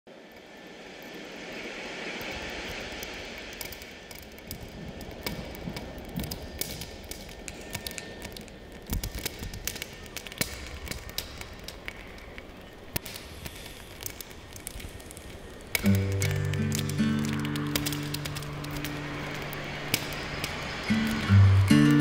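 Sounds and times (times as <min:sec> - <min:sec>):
airy noise: 0:00.1 - 0:22.0
sharp taps and clicks: 0:03.0 - 0:22.0.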